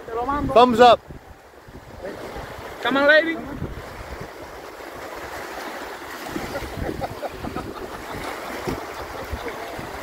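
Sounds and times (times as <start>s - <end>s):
wind buffeting microphone: 0.0s - 5.4s, 6.2s - 10.0s
small waves washing on sand: 0.0s - 10.0s.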